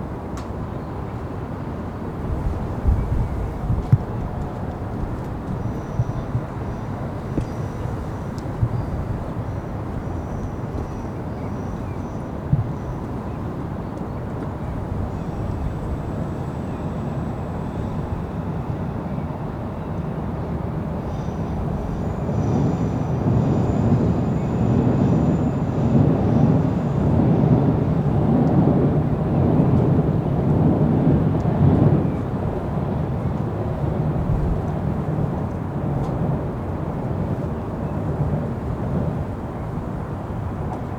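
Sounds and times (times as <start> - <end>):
distant city traffic rumble: 0.0 - 40.9.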